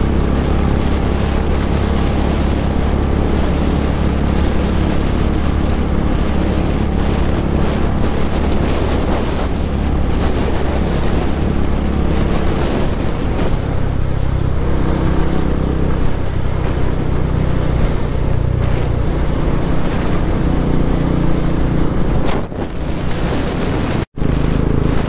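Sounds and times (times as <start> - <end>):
motorcycle engine running: 0.0 - 25.0
wind rush over microphone: 0.0 - 25.0.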